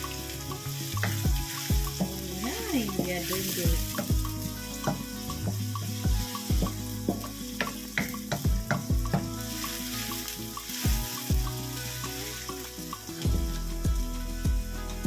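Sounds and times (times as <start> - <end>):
background music with steady beat: 0.0 - 15.0
garlic and onion sizzling in oil: 0.0 - 15.0.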